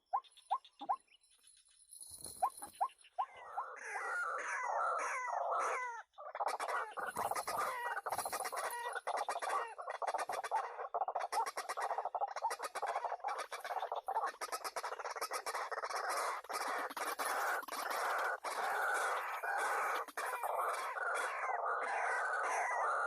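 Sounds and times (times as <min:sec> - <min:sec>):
waterhens calling rapidly: 0:02.4 - 0:23.0.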